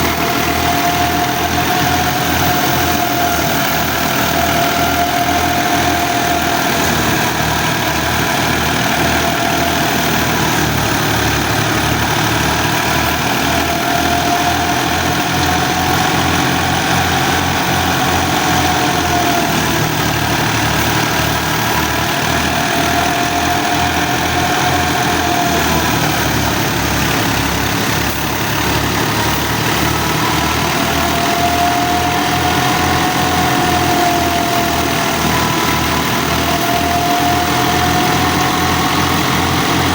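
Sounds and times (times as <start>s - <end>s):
thresher high whine: 0.0s - 39.9s
tractor diesel engine throbbing: 0.0s - 39.9s.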